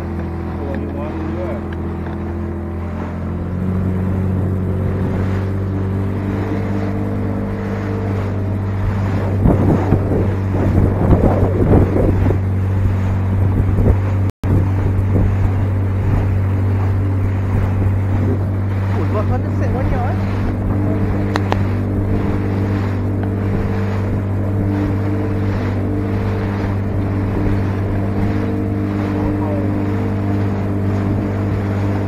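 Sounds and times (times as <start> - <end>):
hull slapping and spray splashing: 0.0 - 32.0
motorboat engine running: 0.0 - 32.0.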